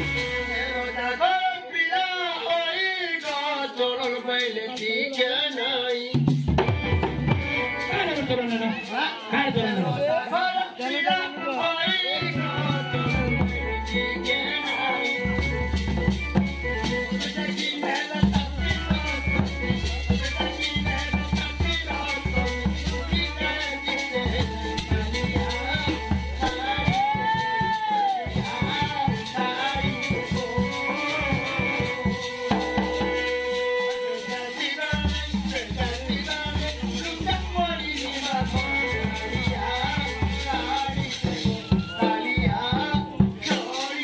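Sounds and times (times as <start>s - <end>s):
dhol drum beating fast rhythm: 0.0s - 1.4s, 3.2s - 44.0s.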